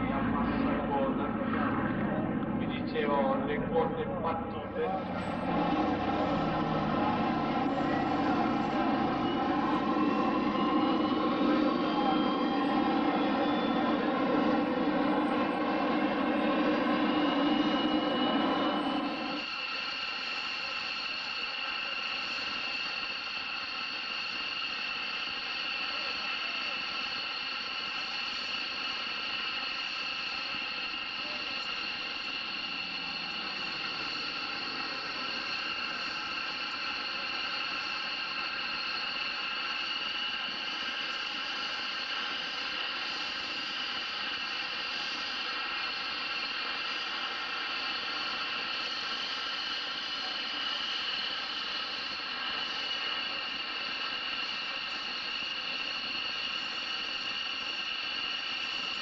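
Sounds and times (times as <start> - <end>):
jet engine turbine whine: 0.0 - 59.0.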